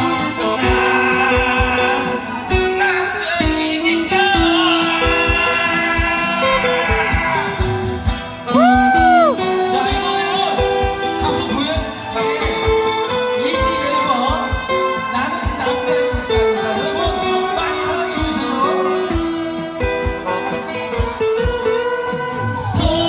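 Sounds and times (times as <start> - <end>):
instrumental backing track: 0.0 - 23.0
man singing: 0.0 - 23.0.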